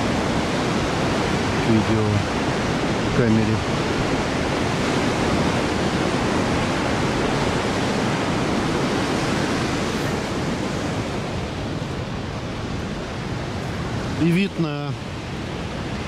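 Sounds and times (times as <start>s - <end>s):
ocean surf breaking on rocks: 0.0s - 16.0s.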